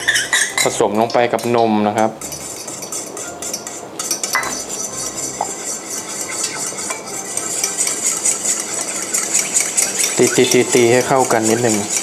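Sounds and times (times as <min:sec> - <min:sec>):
fork clinking in metal bowl: 0:02.2 - 0:12.0.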